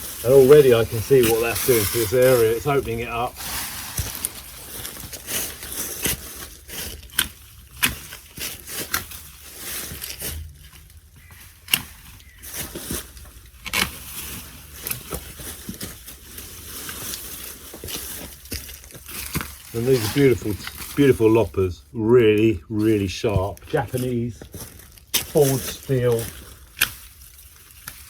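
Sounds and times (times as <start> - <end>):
leafy branches rustling: 0.0 - 28.0.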